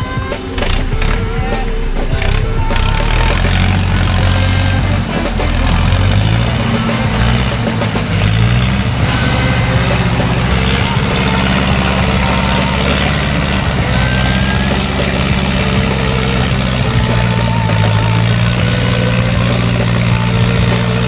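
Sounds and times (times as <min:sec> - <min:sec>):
vehicle engine running at low revs: 0:00.0 - 0:21.0.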